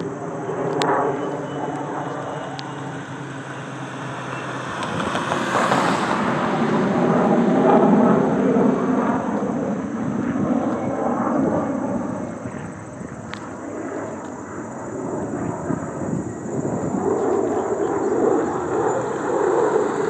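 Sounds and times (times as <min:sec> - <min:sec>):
jet engine passing: 0:00.0 - 0:20.0.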